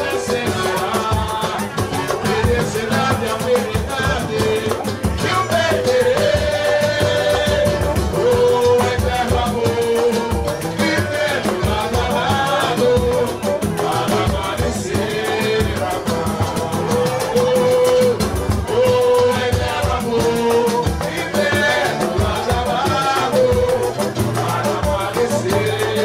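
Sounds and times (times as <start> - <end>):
crowd singing along: 0.0 - 26.0
man singing into a microphone: 0.0 - 26.0
samba percussion and strummed strings: 0.0 - 26.0.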